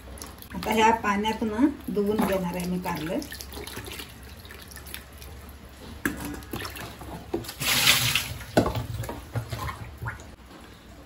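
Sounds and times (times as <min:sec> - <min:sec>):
water splashing and sloshing: 0:00.0 - 0:10.7.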